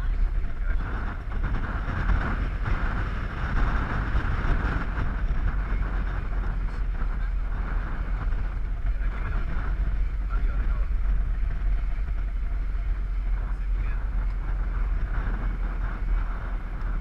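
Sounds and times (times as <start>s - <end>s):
vehicle rumble: 0.0s - 17.0s
wind rushing over microphone: 0.0s - 17.0s.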